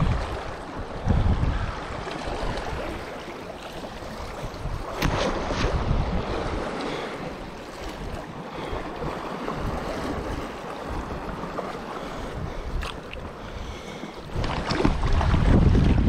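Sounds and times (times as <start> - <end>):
small waves washing in shallows: 0.0 - 16.0
wind buffeting the microphone: 0.0 - 16.0.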